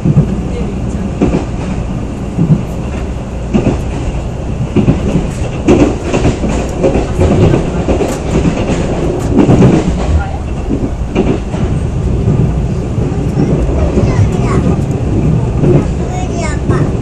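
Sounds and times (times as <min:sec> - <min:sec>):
train low rumble: 0:00.0 - 0:17.0
wheels clacking on track: 0:00.0 - 0:17.0.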